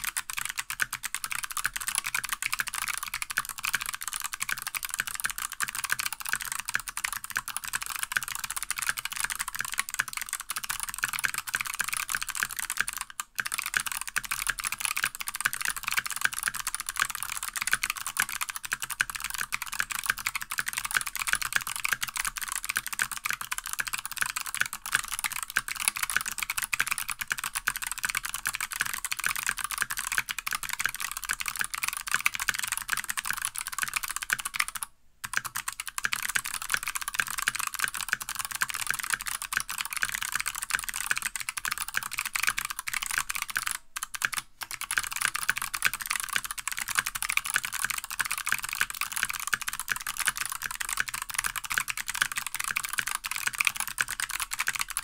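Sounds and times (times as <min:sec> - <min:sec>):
clicky mechanical keyboard typing: 0:00.0 - 0:55.0.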